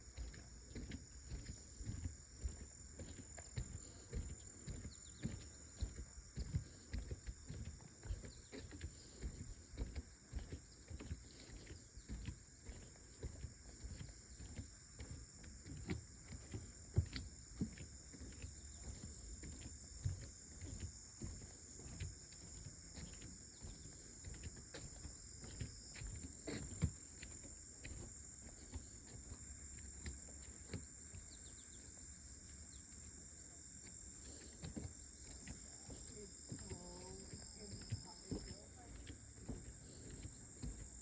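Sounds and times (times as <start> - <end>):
insects chorus: 0.0 - 41.0.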